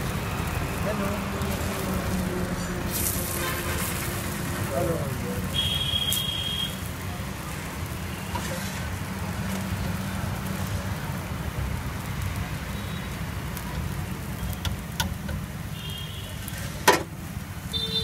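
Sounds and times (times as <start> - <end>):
sizzling on hot griddle: 0.0 - 18.0.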